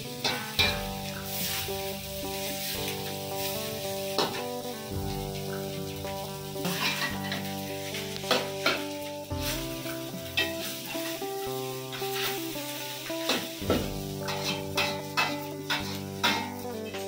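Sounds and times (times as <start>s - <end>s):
background music with chords: 0.0s - 17.0s
rice sizzling: 0.0s - 17.0s
spatula scraping wok: 0.1s - 17.0s.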